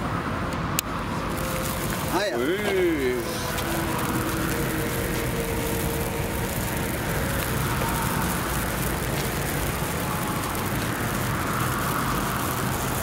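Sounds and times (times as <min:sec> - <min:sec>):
spark fountain hissing and crackling: 0:00.6 - 0:13.0
low rumble: 0:01.0 - 0:13.0.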